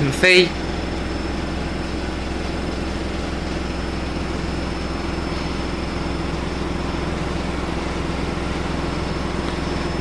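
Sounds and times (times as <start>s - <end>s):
machine hum with hiss: 0.0s - 10.0s.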